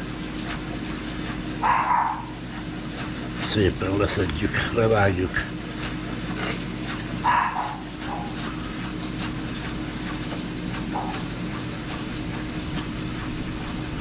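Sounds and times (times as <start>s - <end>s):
constant hum: 0.0s - 14.0s.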